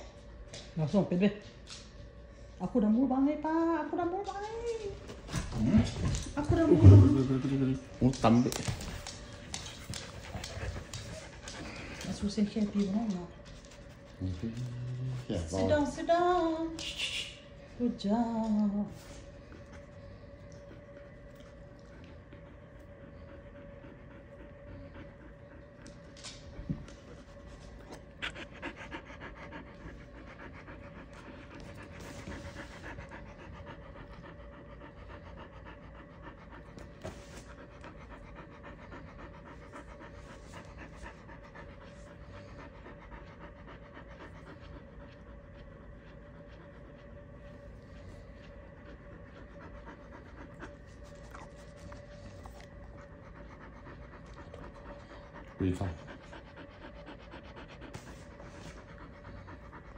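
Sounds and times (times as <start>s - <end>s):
dogs panting: 0.0s - 59.9s.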